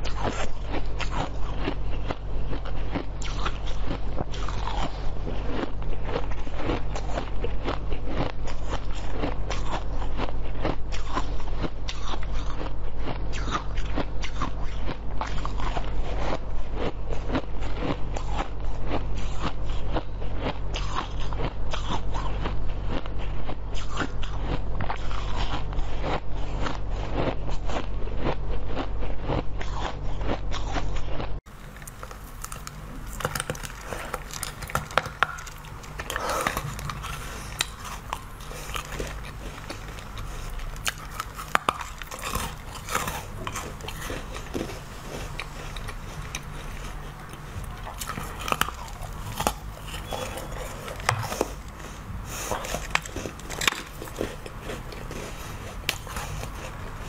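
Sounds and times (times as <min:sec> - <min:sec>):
crunching and biting food: 0:00.0 - 0:57.0.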